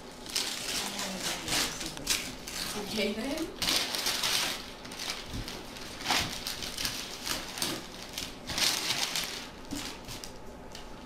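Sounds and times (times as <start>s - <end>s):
paper and cardboard rustling: 0.2s - 11.0s.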